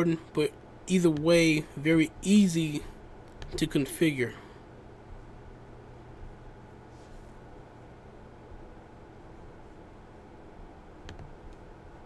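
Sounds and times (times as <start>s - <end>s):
faint microphone hiss and hum: 0.0s - 12.0s.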